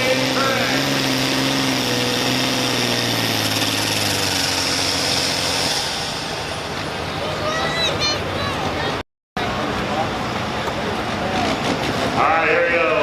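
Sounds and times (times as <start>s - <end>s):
tractor engine running loud: 0.0s - 13.0s.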